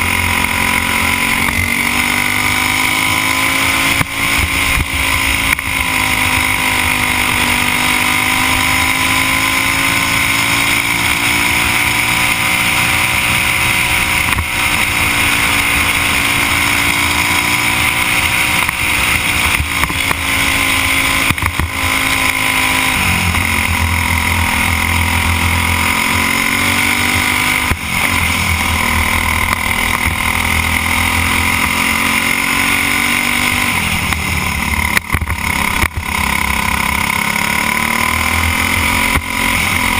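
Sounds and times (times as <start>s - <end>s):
kart engine running hard: 0.0s - 39.9s
steady rushing noise: 0.0s - 39.9s.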